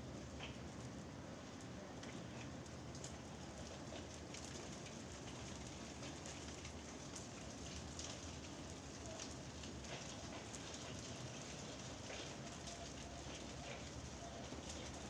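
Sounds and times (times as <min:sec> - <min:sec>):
rain falling steadily: 0:00.0 - 0:15.0
raindrops ticking: 0:02.0 - 0:15.0.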